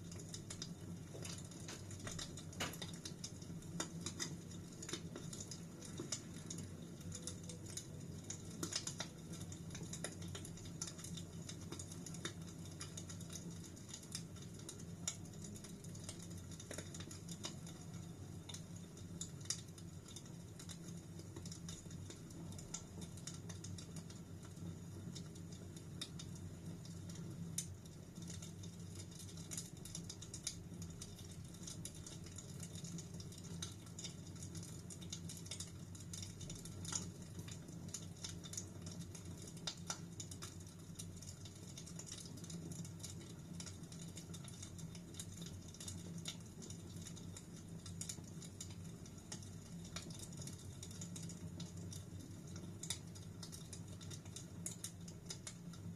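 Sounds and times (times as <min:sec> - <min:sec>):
fireplace fire crackling: 0:00.0 - 0:55.9.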